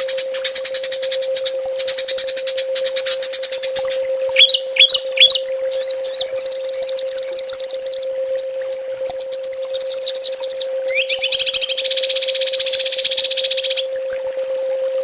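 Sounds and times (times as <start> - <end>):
songbirds trilling: 0.0 - 13.9
low hum: 0.0 - 15.0.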